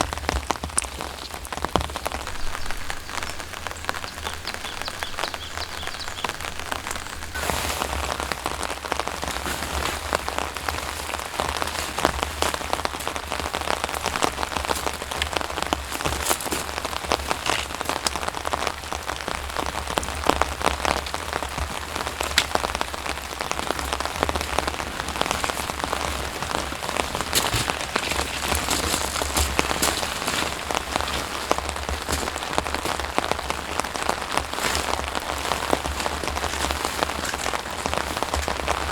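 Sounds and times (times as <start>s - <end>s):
sharp raindrop hits: 0.0s - 38.9s
steady rain falling: 0.0s - 38.9s.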